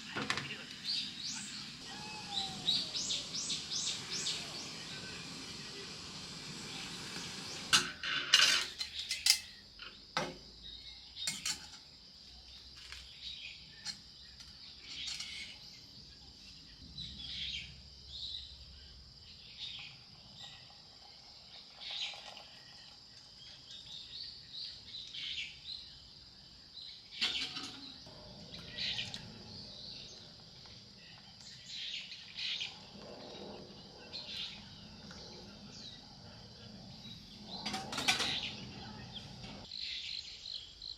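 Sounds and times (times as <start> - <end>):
birds chirping: 0.0 - 7.9, 12.9 - 40.9
high insect hum: 0.0 - 40.9.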